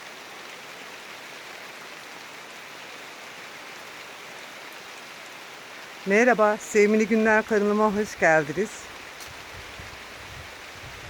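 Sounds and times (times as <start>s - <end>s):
heavy rain on ground and foliage: 0.0s - 11.0s.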